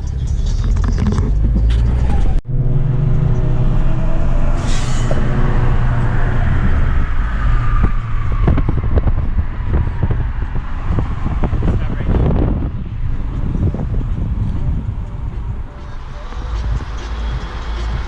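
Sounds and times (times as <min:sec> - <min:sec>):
car engine rumbling: 0:00.0 - 0:18.0
road noise: 0:00.0 - 0:18.0.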